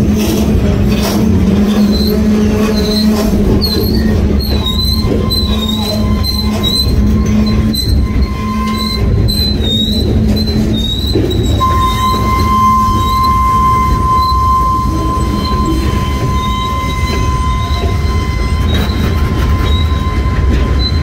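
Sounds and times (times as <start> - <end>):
rumble and clicks of wheels: 0.0 - 21.0
steel wheels squealing on rail: 0.0 - 21.0.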